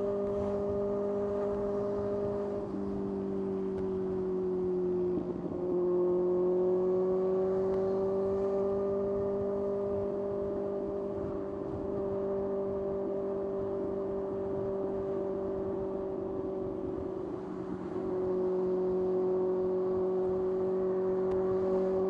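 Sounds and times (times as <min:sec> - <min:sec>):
motorcycle engine running steadily: 0:00.0 - 0:22.0.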